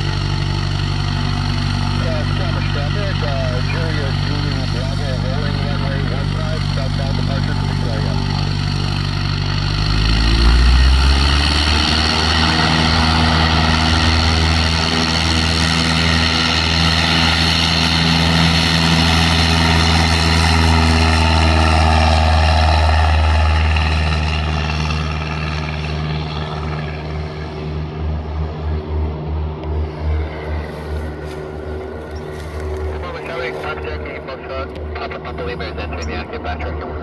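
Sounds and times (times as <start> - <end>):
airplane engine and propeller drone: 0.0 - 37.0.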